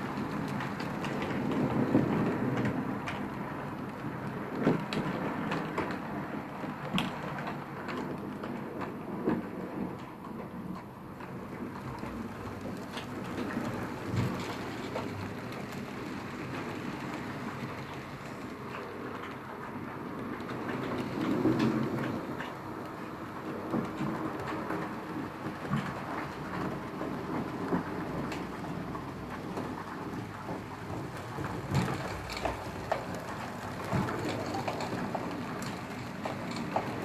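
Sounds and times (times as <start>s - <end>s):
wheels clicking on rails: 0.0s - 37.0s.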